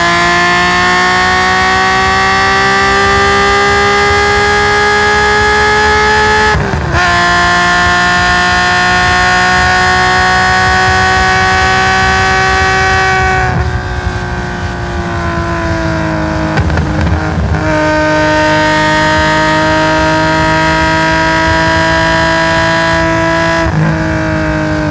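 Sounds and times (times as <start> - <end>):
race car engine at high revs: 0.0 - 24.9.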